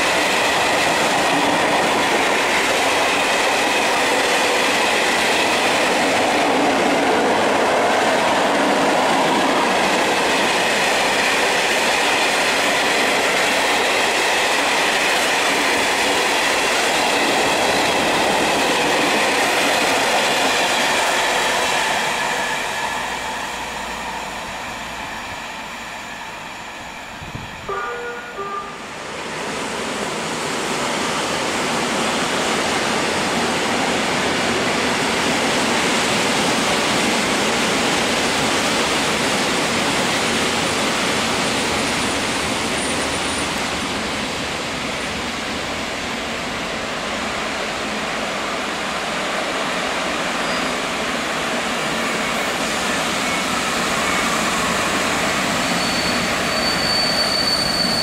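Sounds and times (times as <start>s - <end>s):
train wheels rushing on rails: 0.0s - 58.0s.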